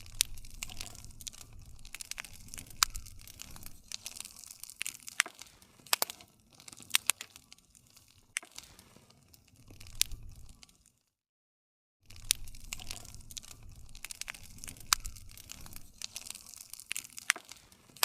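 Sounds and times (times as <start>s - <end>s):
low rumble of burning: 0.0s - 11.0s, 12.0s - 18.0s
wood fire crackling: 0.0s - 11.2s, 12.0s - 18.0s.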